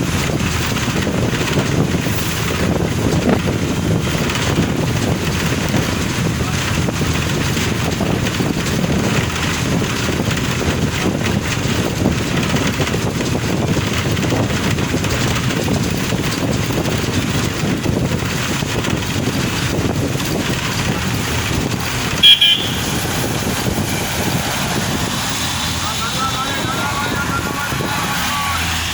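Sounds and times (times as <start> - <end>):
car driving on road: 0.0 - 28.9
wind buffeting microphone: 0.0 - 28.9.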